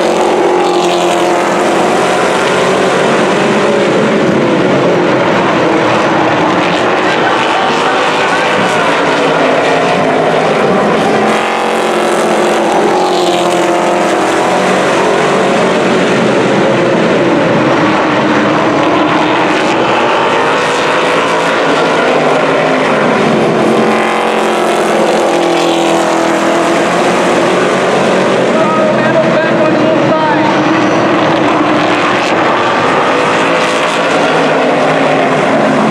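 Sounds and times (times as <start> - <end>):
race car engines passing: 0.0 - 35.9.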